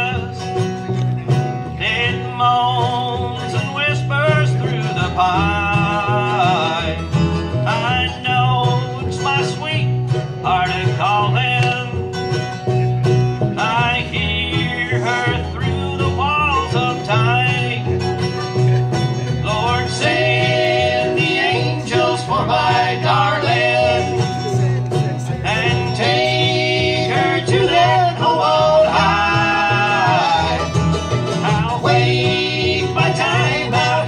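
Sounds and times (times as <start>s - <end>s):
acoustic guitar: 0.0s - 34.0s
mandolin melody: 0.0s - 34.0s
upright bass line: 0.0s - 34.0s.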